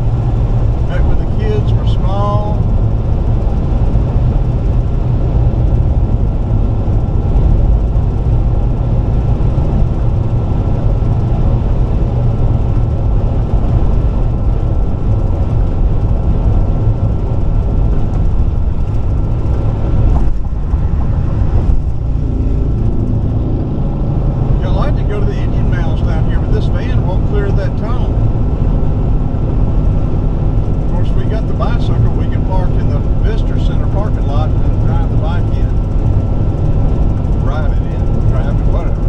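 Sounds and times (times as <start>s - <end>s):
faint steady whine: 0.0s - 39.0s
tyre and road rumble: 0.0s - 39.0s.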